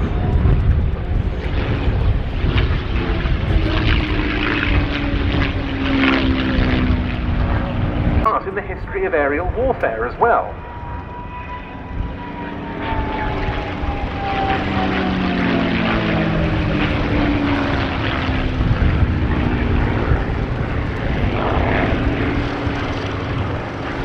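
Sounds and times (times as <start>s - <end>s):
propeller plane engine flying past: 0.0s - 24.0s.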